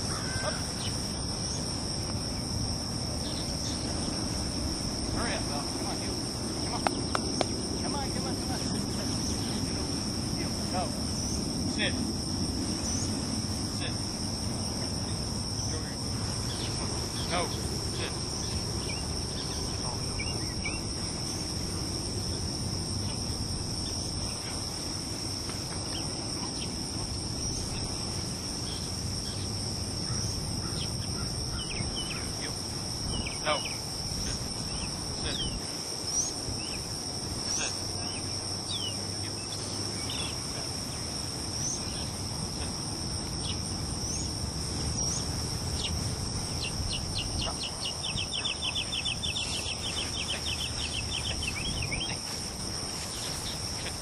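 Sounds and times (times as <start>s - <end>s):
insects chirring drone: 0.0s - 54.0s
short insect chirps: 0.0s - 54.0s.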